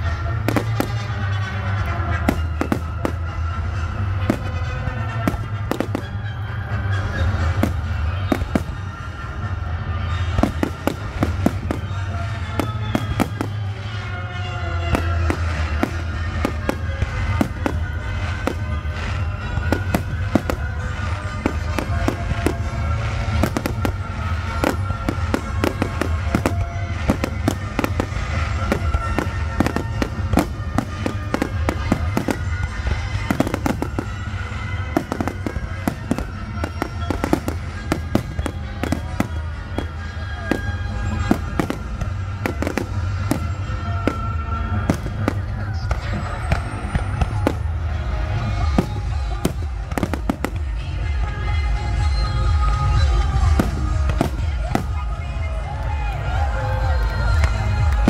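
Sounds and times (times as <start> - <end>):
fireworks bangs and crackles: 0.0 - 58.0
music playing: 0.0 - 58.0.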